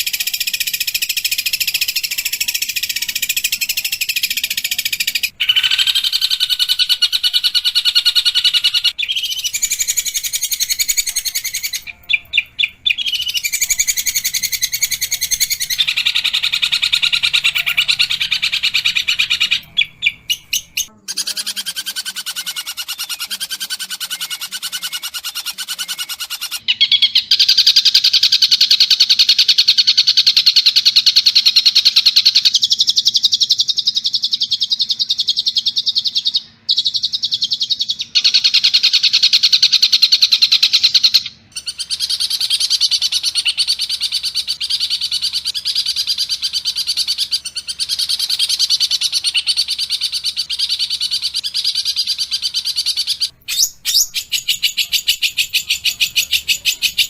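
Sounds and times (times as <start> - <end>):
bird harsh chattering song: 0.0 - 57.0.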